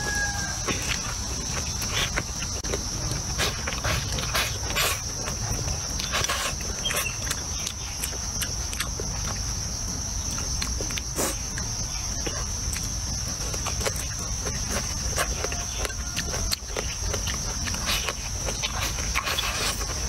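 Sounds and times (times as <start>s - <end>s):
person chewing and smacking: 0.6s - 20.0s.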